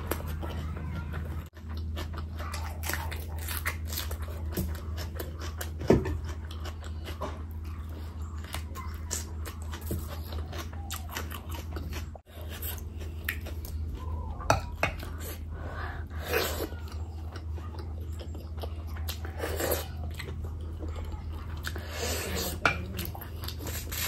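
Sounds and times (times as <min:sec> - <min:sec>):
person chewing with wet mouth sounds: 0:00.0 - 0:24.0.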